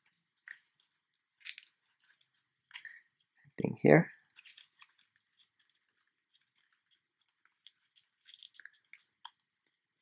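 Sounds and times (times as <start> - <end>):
paper crinkling: 0.0 - 3.4, 4.2 - 10.0.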